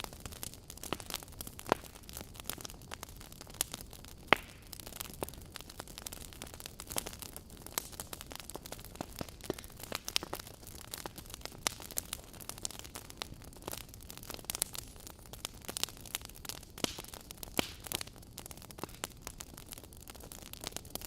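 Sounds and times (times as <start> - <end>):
fire popping: 0.0 - 21.0
fireplace logs crackling: 0.0 - 21.0
soft steady fire hiss: 0.0 - 21.0.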